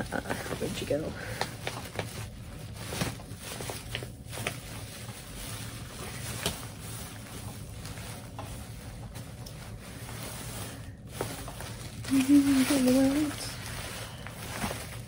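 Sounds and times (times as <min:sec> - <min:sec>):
hands rustling through yarn: 0:00.0 - 0:15.0
steady low hum: 0:00.0 - 0:15.0.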